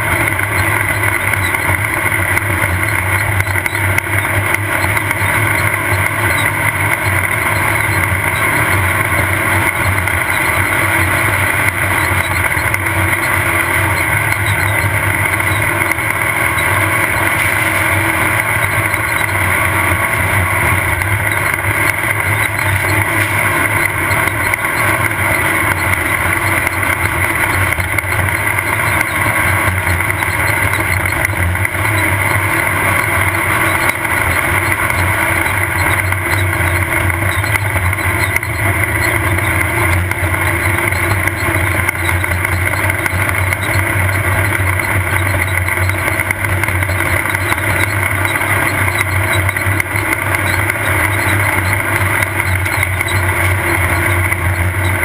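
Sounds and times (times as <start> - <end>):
car rumbling over rough terrain: 0.0 - 55.0
race car engine running: 0.0 - 55.0.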